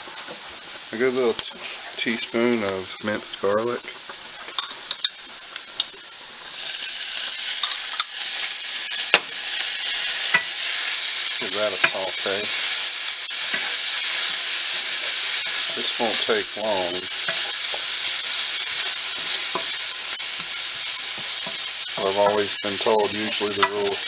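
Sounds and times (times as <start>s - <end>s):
onions sizzling in frying pan: 0.0s - 24.0s.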